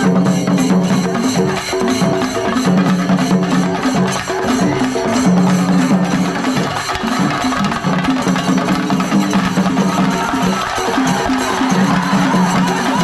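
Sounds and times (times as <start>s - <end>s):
drums beaten in fast rhythm: 0.0s - 13.0s.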